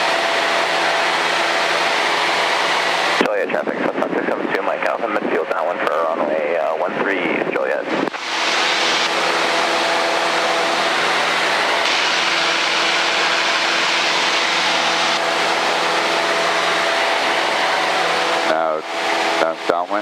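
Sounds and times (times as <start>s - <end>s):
airplane engine drone in cabin: 0.0s - 20.0s.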